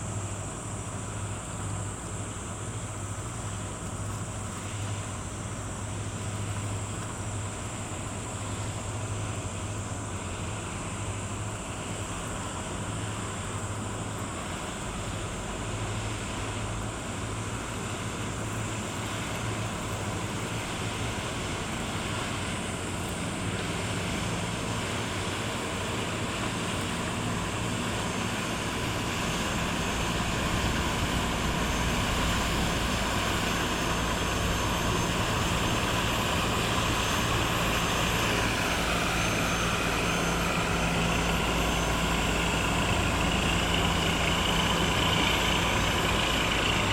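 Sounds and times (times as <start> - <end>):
boat engine drone: 0.0 - 46.9.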